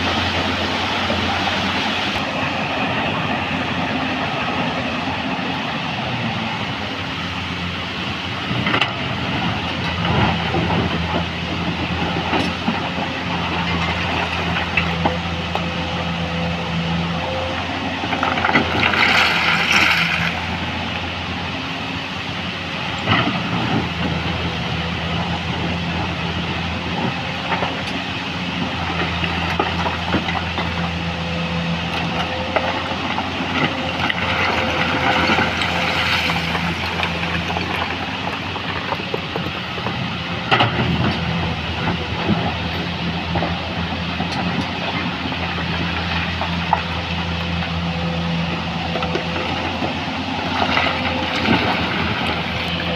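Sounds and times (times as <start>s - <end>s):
heavy diesel machinery running: 0.0s - 52.9s.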